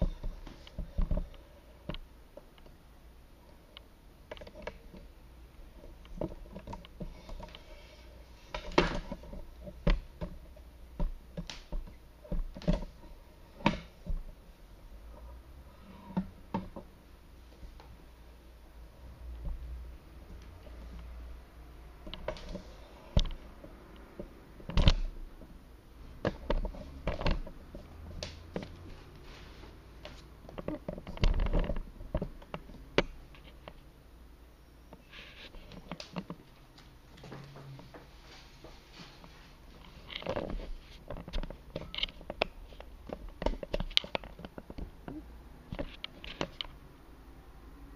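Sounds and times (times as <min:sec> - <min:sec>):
handling knocks and creaks: 0:00.0 - 0:02.8, 0:03.6 - 0:18.0, 0:21.9 - 0:33.9, 0:34.8 - 0:46.8.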